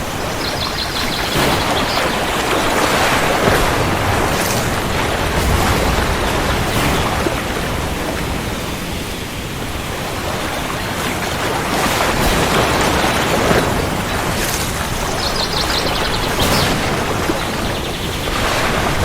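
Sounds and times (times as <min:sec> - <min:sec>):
heavy rain falling: 0:00.0 - 0:19.0
rolling thunder rumbling: 0:00.0 - 0:19.0.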